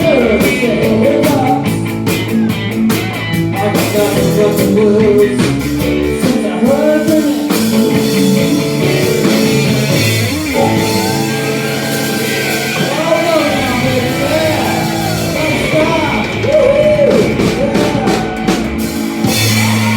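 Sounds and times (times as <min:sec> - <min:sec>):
person singing: 0:00.0 - 0:19.9
rock music with guitar and drums: 0:00.0 - 0:19.9.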